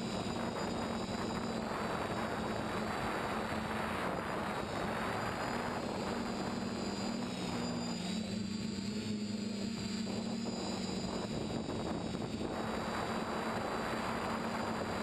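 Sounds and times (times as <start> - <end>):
quadcopter propellers buzzing: 0.0 - 15.0
wind over microphone: 0.0 - 15.0.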